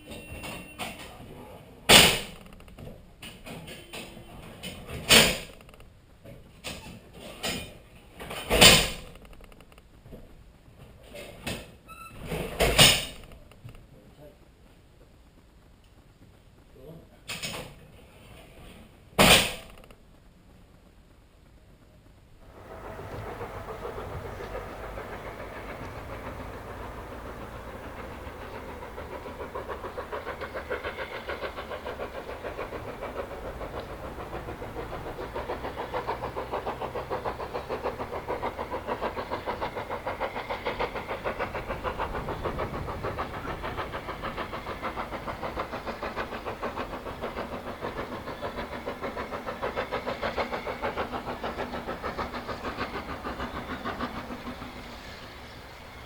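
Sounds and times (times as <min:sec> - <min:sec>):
locomotive running: 0:00.0 - 0:13.8, 0:15.2 - 0:56.0.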